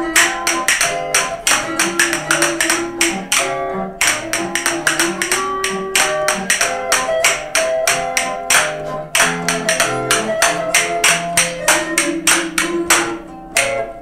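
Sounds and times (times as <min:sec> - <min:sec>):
zither playing lively tune: 0:00.0 - 0:14.0
wooden spoons clacking: 0:00.1 - 0:13.8.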